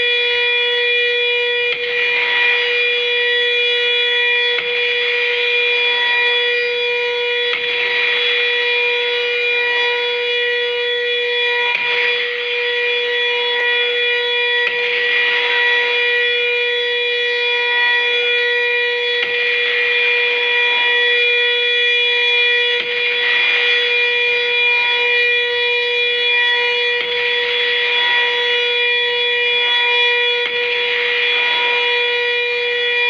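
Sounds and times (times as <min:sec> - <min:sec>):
steady siren: 0:00.0 - 0:33.0.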